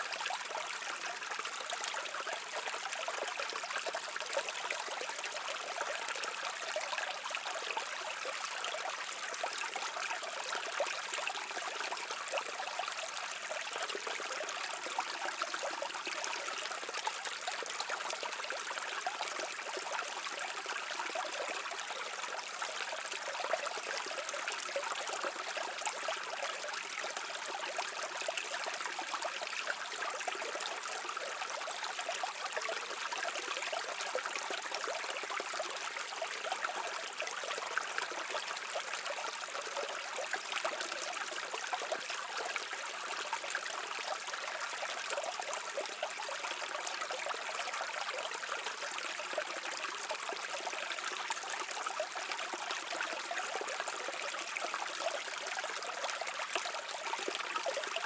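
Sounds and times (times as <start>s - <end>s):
stream water trickling over rocks: 0.0s - 58.0s.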